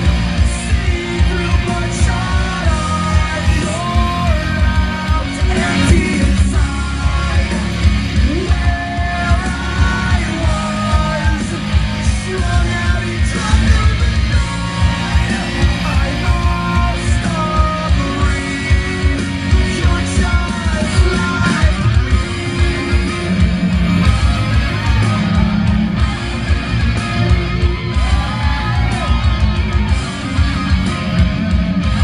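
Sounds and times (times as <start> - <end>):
person singing: 0.0 - 26.5
loud rock music: 0.0 - 32.0.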